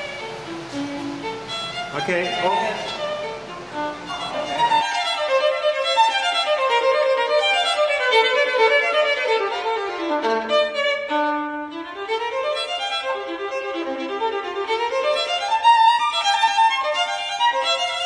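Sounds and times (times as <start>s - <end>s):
noisy room sound: 0.0s - 18.0s
violin music: 0.0s - 18.0s.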